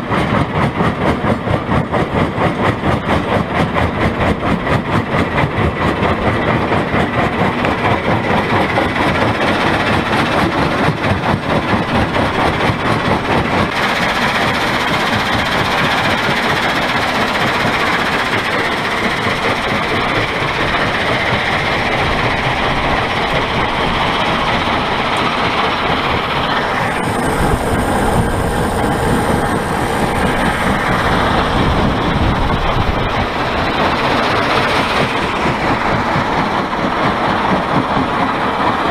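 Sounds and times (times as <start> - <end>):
conveyor belt rumbling with stone: 0.0 - 38.9.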